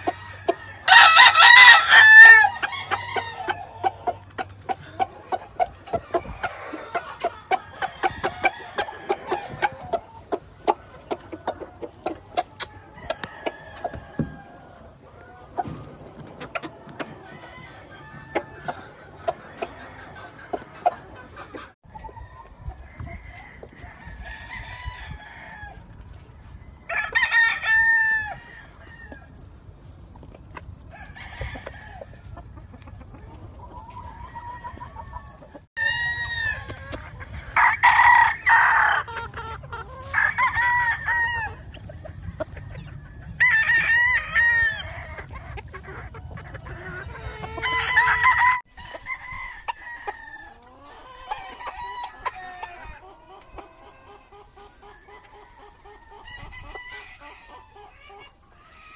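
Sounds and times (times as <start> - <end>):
roosters crowing: 0.0 - 29.6, 30.5 - 58.9
chickens clucking: 0.0 - 58.9.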